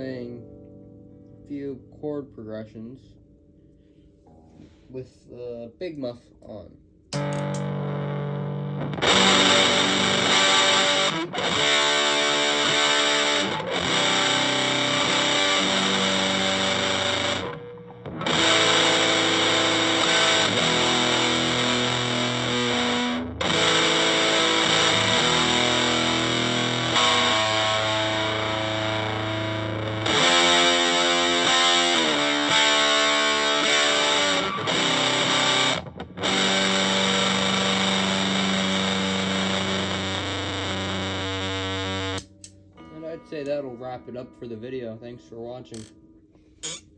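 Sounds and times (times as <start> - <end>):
distorted electric guitar chords: 7.1 - 46.8.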